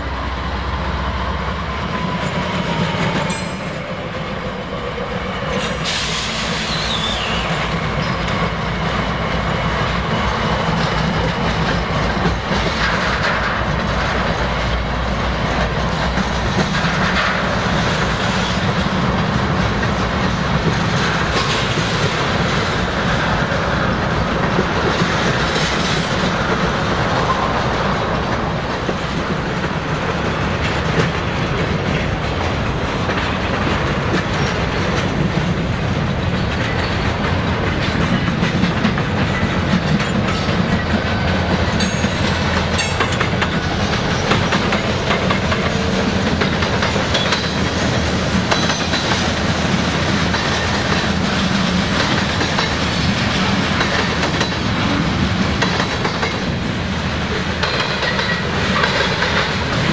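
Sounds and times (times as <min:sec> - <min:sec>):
freight train rumbling past: 0:00.0 - 0:59.9
wheels clicking over rail joints: 0:06.6 - 0:56.7, 0:57.3 - 0:59.9.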